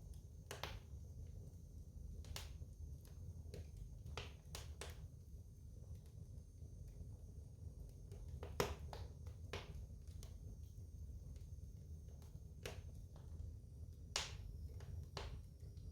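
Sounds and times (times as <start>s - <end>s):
low rumble of flames: 0.0s - 15.9s.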